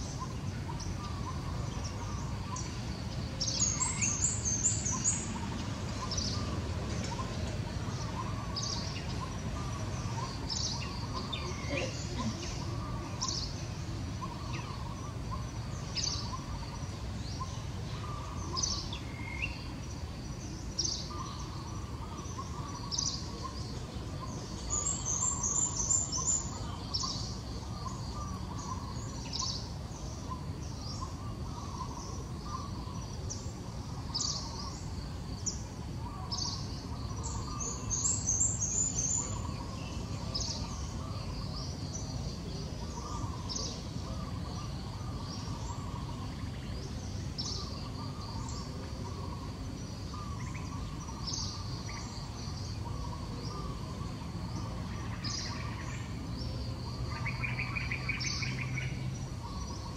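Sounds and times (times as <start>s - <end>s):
birds chirping: 0.0s - 59.9s
low background noise: 0.0s - 59.9s.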